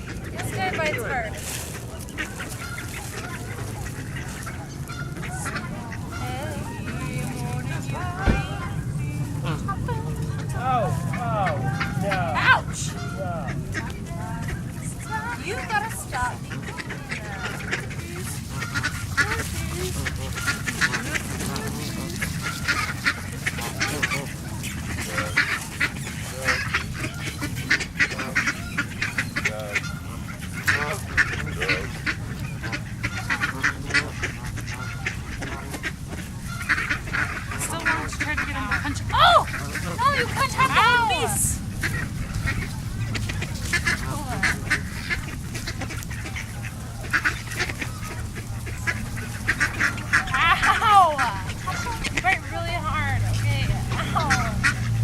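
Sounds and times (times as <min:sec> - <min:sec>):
geese and ducks calling: 0:00.0 - 0:55.0.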